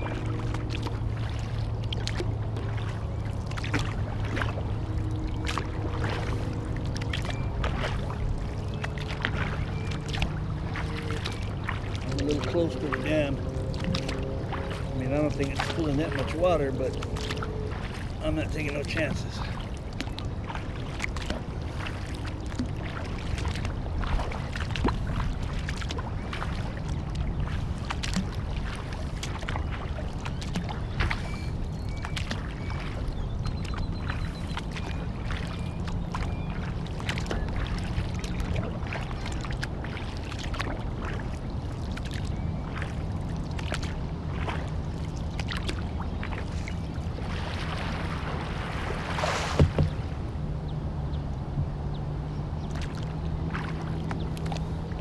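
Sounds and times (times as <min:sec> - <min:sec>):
water splashing around kayak: 0:00.0 - 0:55.0.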